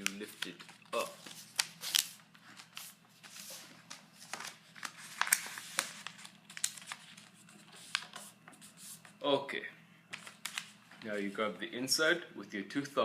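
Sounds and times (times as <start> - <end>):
paper rustling and crinkling: 0.0 - 9.2, 10.1 - 11.4.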